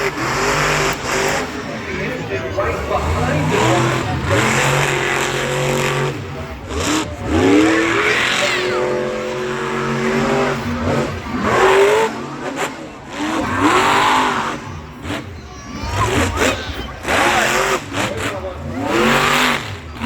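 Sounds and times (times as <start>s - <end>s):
truck engines revving: 0.0s - 20.0s.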